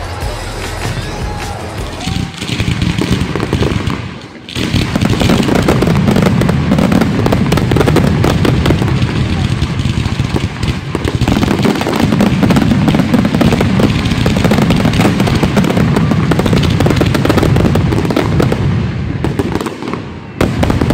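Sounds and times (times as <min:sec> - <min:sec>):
fireworks crackling: 0:00.0 - 0:20.9.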